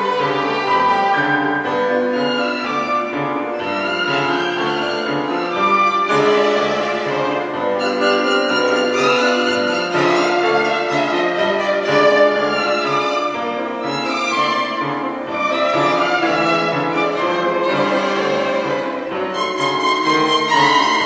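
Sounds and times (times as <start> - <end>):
violin ensemble playing: 0.0 - 21.0.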